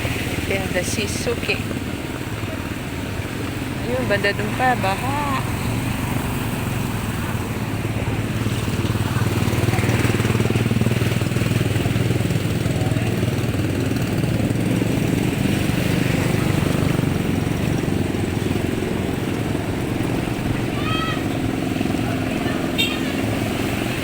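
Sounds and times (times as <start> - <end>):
small motorcycle engine running: 0.0 - 24.0.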